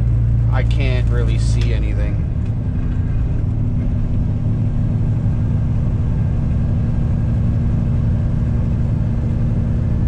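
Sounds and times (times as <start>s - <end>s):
diesel truck engine drone: 0.0s - 10.0s.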